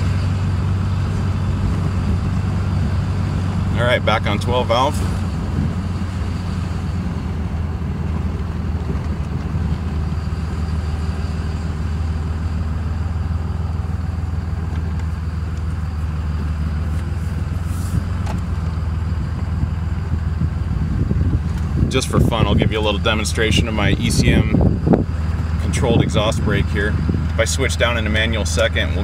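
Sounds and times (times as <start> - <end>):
diesel engine drone: 0.0 - 29.0.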